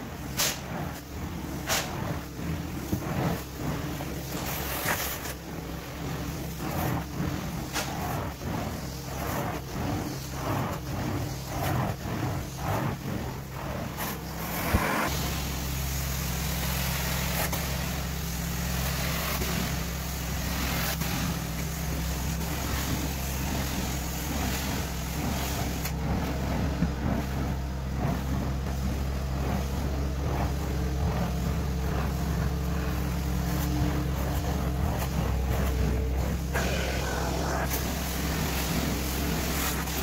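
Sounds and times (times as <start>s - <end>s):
suction hissing over carpet: 0.0s - 40.0s.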